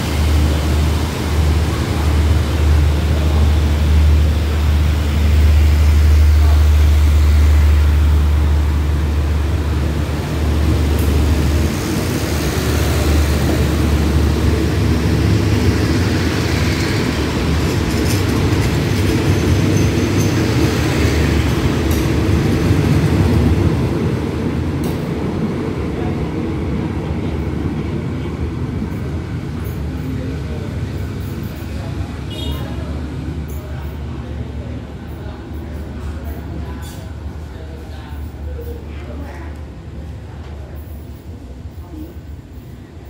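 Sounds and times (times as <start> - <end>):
train coaches rumbling and rattling: 0.0 - 43.0.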